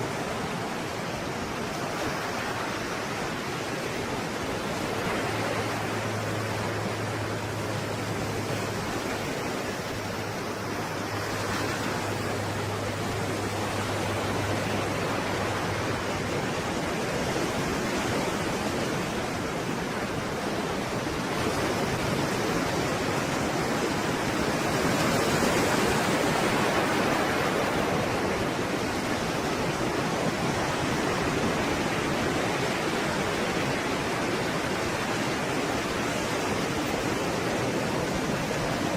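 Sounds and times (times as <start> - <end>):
stormy sea waves: 0.0 - 38.9.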